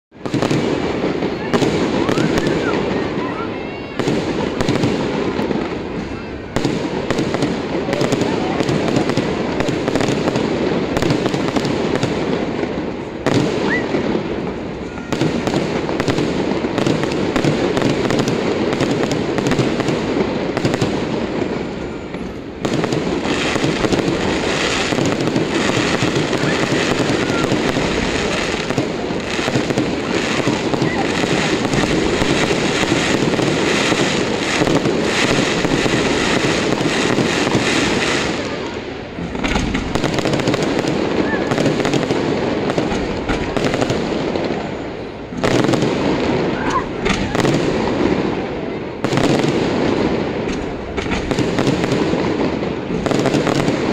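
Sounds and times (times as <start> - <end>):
fireworks crackling and banging: 0.1 - 53.9.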